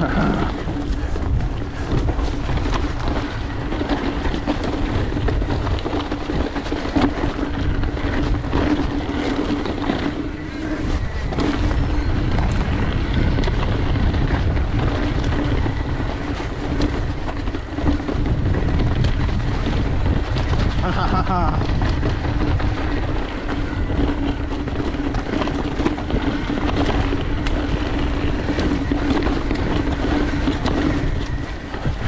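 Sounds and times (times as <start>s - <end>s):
bike rattling and knocking: 0.0s - 32.0s
bike tyres rolling on dirt: 0.0s - 32.0s
wind on microphone: 0.0s - 32.0s.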